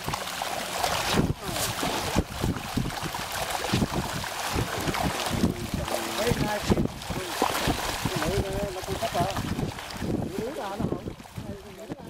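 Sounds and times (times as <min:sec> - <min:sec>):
fish splashing in water: 0:00.0 - 0:12.0
wind buffeting microphone: 0:00.9 - 0:12.0.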